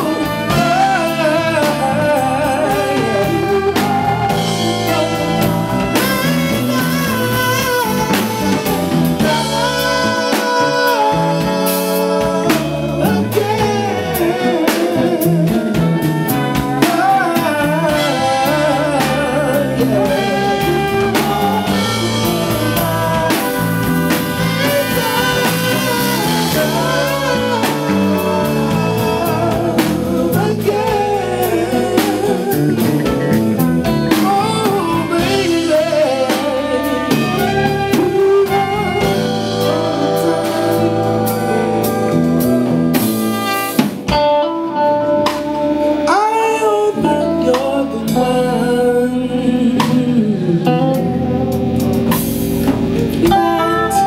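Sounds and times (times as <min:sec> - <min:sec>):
drum kit: 0:00.0 - 0:54.0
electric guitar: 0:00.0 - 0:54.0
electric keyboard: 0:00.0 - 0:54.0
person singing: 0:00.0 - 0:54.0
trombone: 0:00.0 - 0:54.0.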